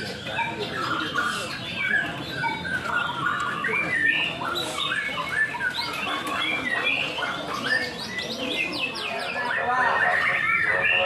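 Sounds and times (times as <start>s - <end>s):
birds singing whistled notes: 0.0s - 11.0s.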